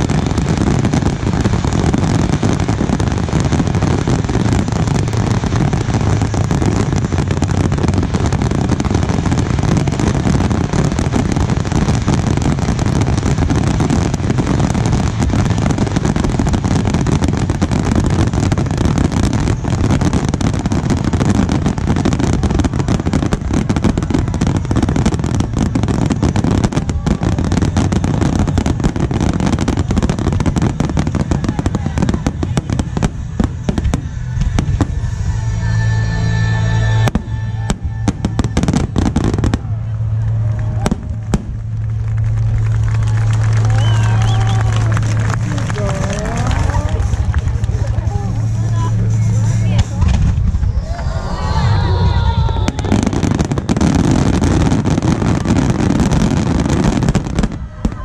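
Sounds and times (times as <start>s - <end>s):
firework bursts and booms: 0.0s - 36.0s, 36.9s - 58.0s.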